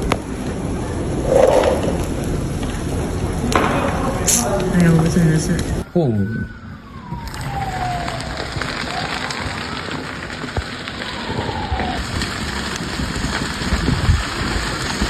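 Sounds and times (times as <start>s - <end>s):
large fire crackling: 0.0s - 15.0s.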